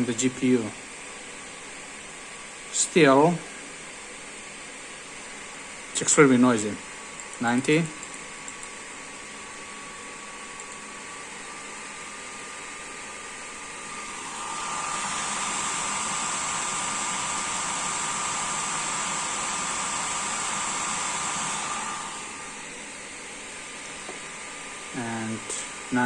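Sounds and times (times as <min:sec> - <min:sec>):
graphics card fan rushing air: 0:00.0 - 0:26.0.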